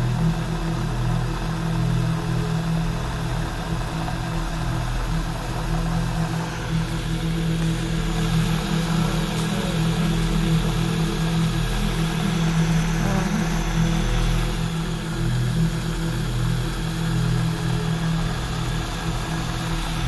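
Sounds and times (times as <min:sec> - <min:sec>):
low droning hum: 0:00.0 - 0:20.0.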